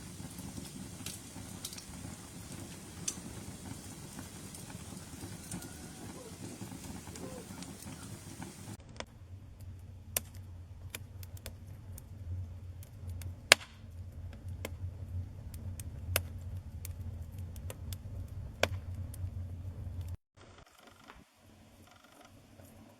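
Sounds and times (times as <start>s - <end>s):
campfire crackling and popping: 0.0s - 20.2s
low steady rumble: 0.0s - 20.2s.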